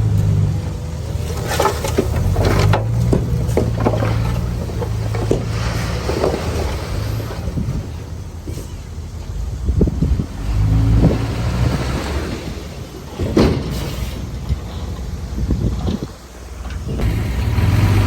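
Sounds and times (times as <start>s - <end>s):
heavy diesel machinery engine: 0.0s - 18.0s.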